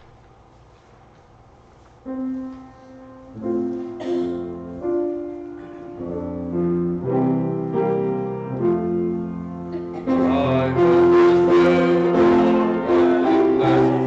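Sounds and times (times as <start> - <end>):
piano playing hymn chords: 2.0 - 14.0.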